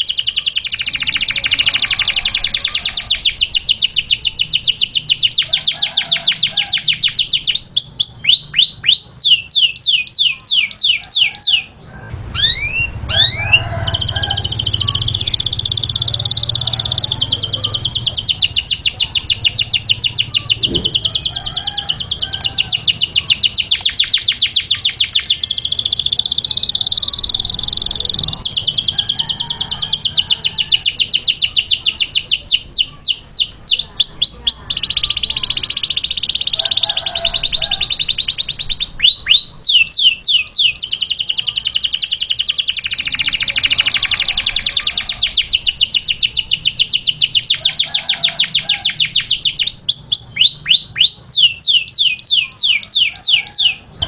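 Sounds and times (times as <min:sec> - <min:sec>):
canary singing fast trills: 0:00.0 - 0:54.0.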